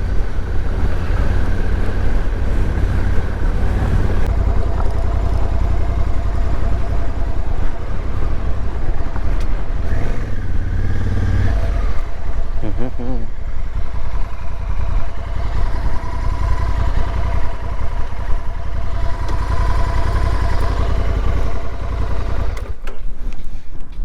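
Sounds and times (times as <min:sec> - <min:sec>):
motorcycle running: 0:00.0 - 0:23.0.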